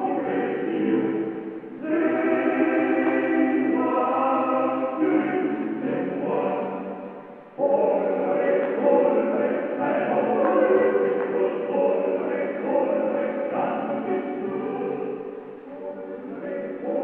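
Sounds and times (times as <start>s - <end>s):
choral voices chanting chords: 0.0s - 17.0s.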